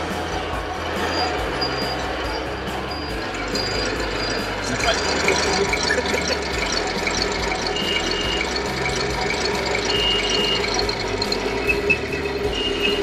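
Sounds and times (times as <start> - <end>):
model tank mechanical running noise: 0.0 - 13.0.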